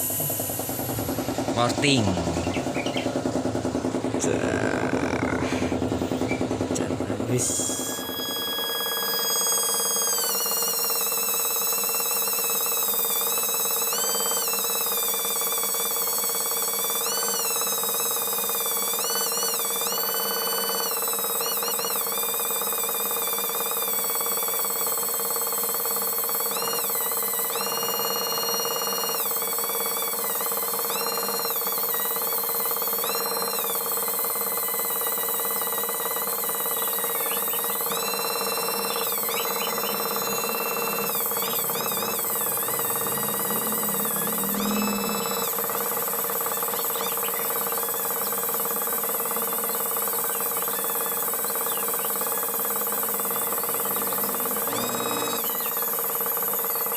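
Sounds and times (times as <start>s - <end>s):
rotary grinder whining: 0.0s - 56.9s.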